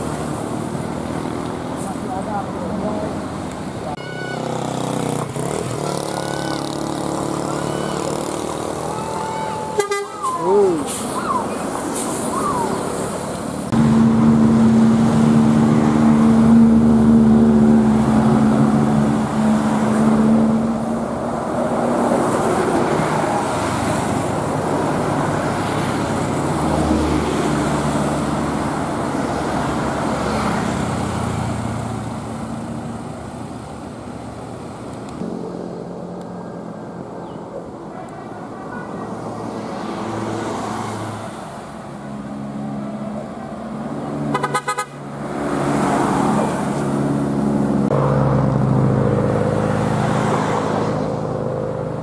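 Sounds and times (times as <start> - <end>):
bus engine drone: 0.0 - 52.0
traffic noise: 0.0 - 52.0.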